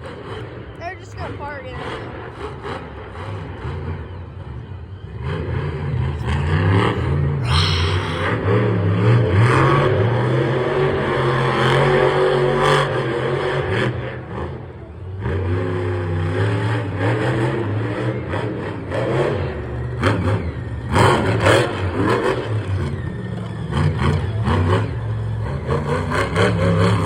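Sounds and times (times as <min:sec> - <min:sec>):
large vehicle engine revving: 0:00.0 - 0:27.0.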